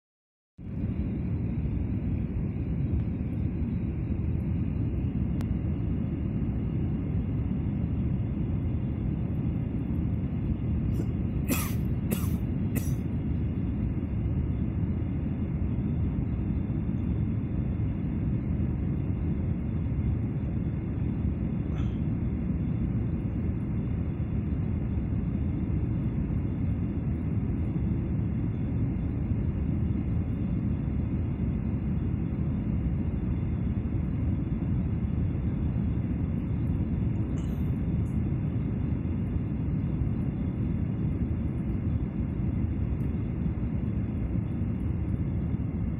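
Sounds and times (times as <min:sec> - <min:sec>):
airliner cabin rumble: 0:00.6 - 0:45.9.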